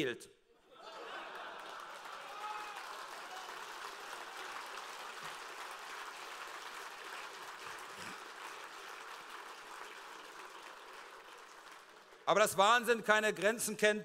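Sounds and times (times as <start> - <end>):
audience applause: 0.8 - 12.4.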